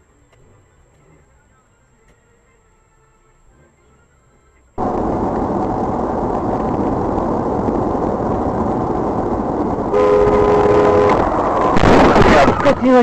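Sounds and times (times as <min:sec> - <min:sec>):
moving vehicle engine and road rumble: 0:00.0 - 0:13.0.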